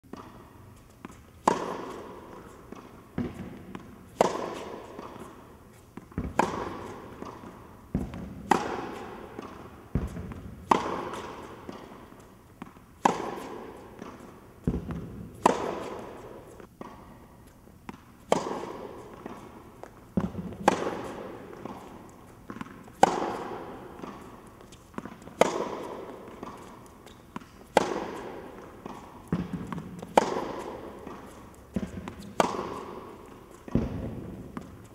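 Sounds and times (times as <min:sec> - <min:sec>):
racket hitting tennis ball: 0:00.1 - 0:34.9.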